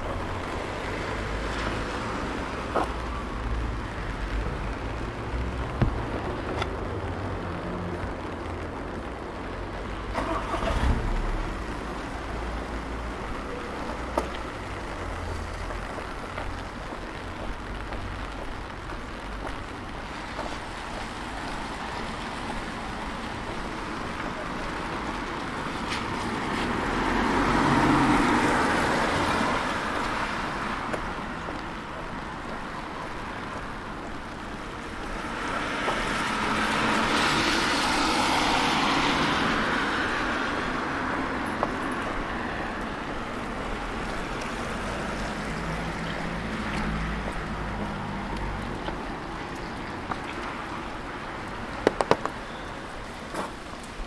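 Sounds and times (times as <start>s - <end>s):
street traffic hum: 0.0s - 54.0s
tyres swishing on wet road: 0.0s - 54.0s.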